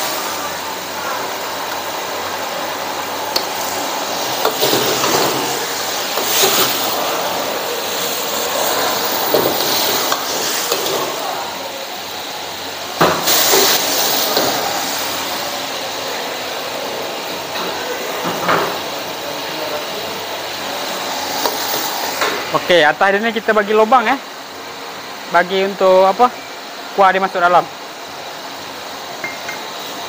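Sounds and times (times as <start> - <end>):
food sizzling in pan: 0.0 - 30.0.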